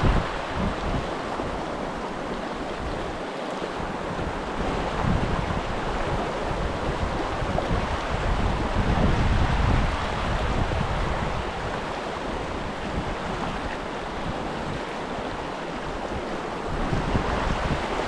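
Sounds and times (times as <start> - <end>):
creek water rushing: 0.0 - 18.0
wind on microphone: 0.0 - 18.0.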